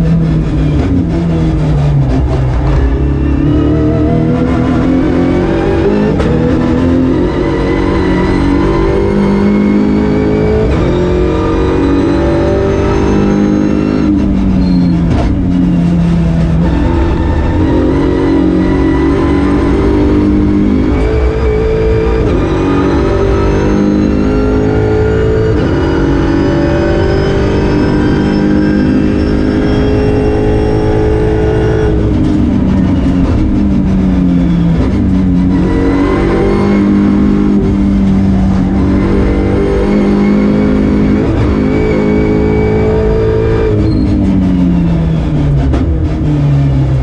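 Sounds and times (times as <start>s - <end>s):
race car engine at full throttle: 0.0s - 47.0s.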